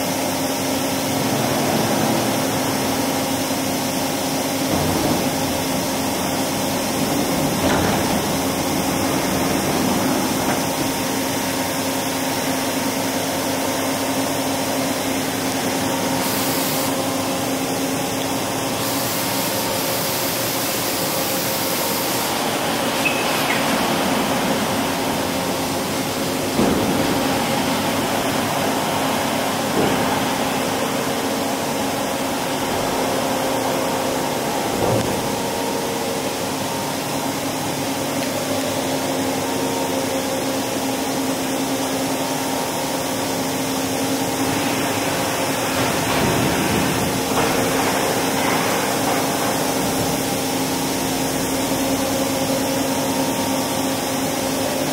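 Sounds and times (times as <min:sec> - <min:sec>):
machinery humming: 0:00.0 - 0:54.9.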